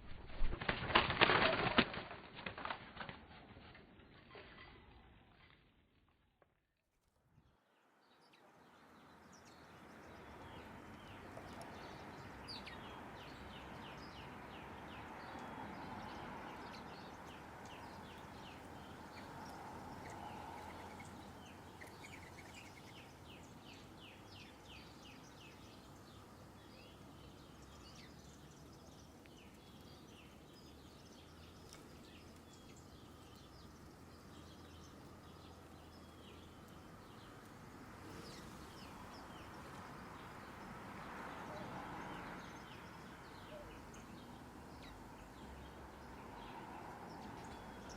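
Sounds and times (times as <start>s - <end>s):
outdoor background hum: 7.2s - 47.9s
small birds chirping: 7.4s - 47.9s.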